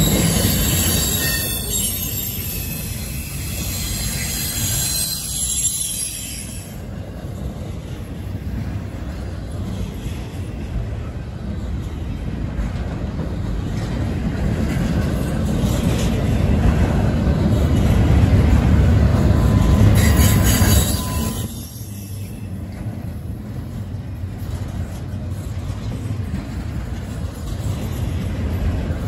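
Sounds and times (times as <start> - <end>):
wheels squealing on rail: 0.0 - 11.2, 14.7 - 29.0
freight train wheels rumbling: 0.0 - 29.0.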